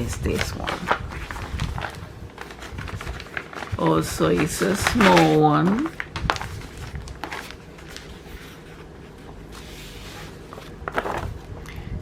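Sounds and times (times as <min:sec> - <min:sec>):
packaging rustling: 0:00.0 - 0:11.6
low room hum: 0:00.0 - 0:12.0.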